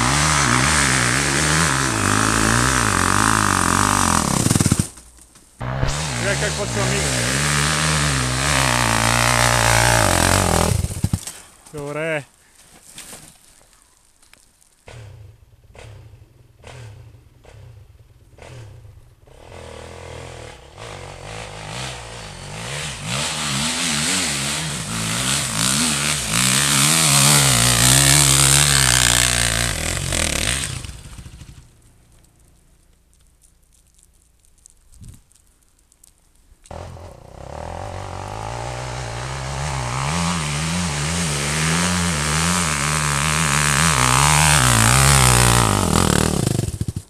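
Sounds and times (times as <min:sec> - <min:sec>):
dirt bike engine revving: 0:00.0 - 0:05.0, 0:05.6 - 0:11.4, 0:14.9 - 0:31.8, 0:36.7 - 0:47.0.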